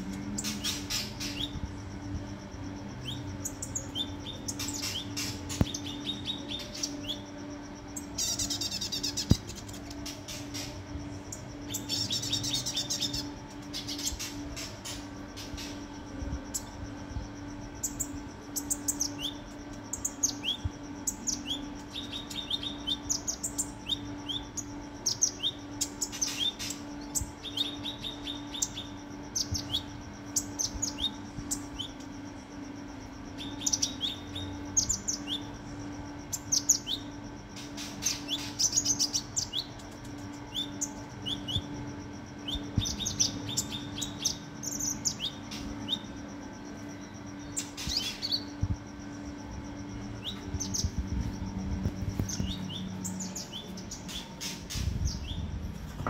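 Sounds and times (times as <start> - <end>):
steady low hum: 0.0 - 56.0
sunbird chirping: 0.0 - 56.0.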